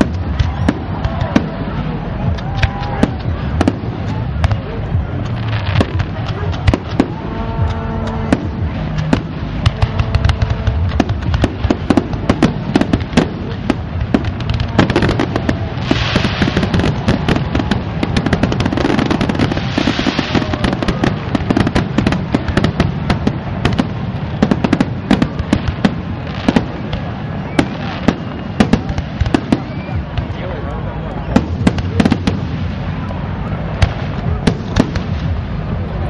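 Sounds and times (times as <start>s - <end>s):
fireworks bangs and booms: 0.0s - 36.0s
fireworks hissing crackle: 0.0s - 36.0s.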